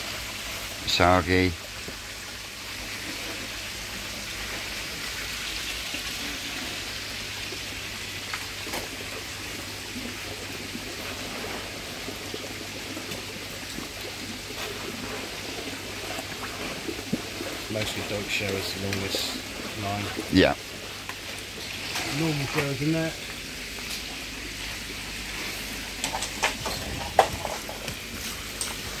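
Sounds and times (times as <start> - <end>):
water splashing and trickling: 0.0 - 29.0.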